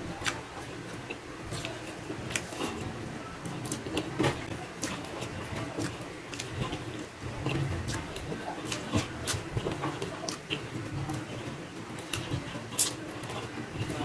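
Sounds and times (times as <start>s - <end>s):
close-miked chewing: 0.0s - 14.0s.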